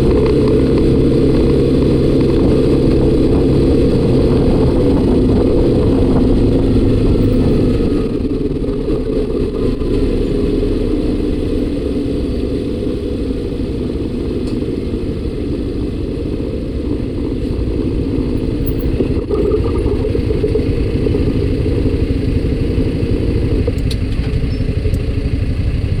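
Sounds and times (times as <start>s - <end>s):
road and wind noise: 0.0s - 26.0s
scooter engine running: 0.0s - 26.0s.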